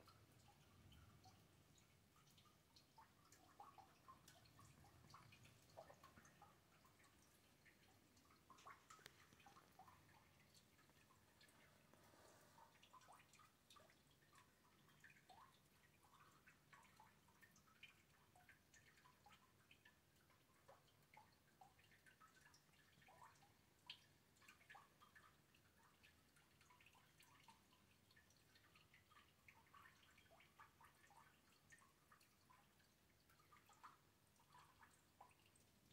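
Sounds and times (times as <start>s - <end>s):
rain dripping: 0.0s - 35.9s.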